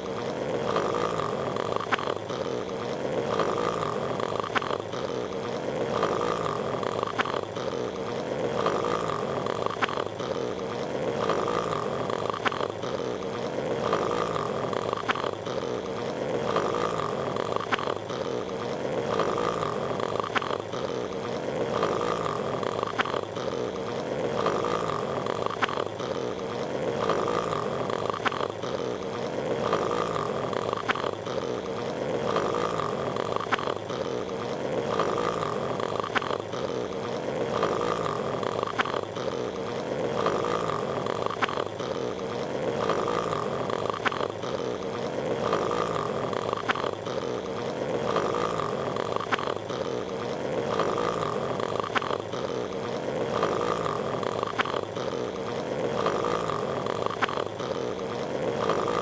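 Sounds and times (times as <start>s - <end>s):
cartoon snoring: 0.0s - 59.0s.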